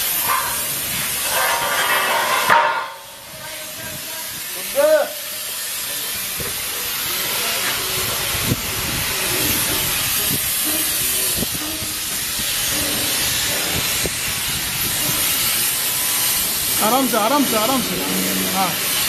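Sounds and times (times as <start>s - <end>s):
spray gun hissing: 0.0s - 19.0s.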